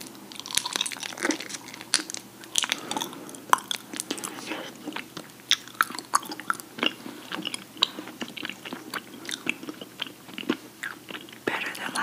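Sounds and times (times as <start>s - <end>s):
chewing honeycomb: 0.0s - 11.5s.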